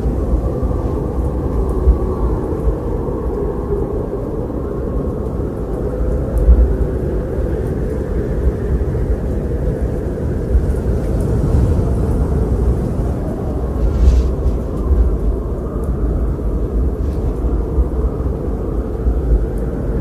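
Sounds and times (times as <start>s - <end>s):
wind blowing: 0.0s - 20.0s.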